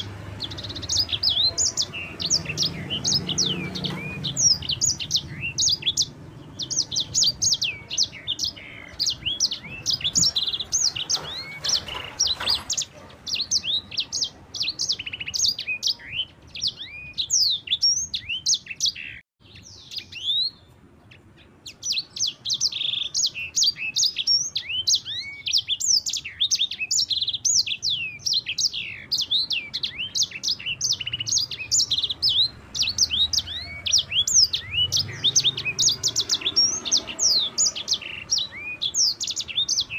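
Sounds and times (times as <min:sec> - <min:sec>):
canary singing rolling song: 0:00.0 - 0:39.9.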